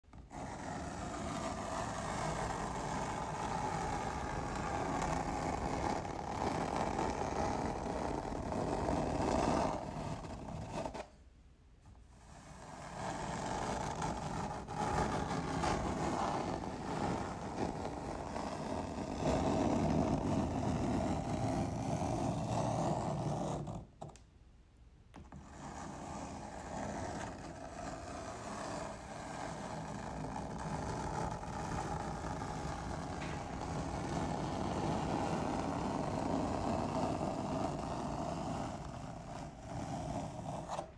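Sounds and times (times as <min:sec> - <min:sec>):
fingernails scraping a chalkboard: 0:00.1 - 0:11.2, 0:11.8 - 0:24.2, 0:25.2 - 0:40.9.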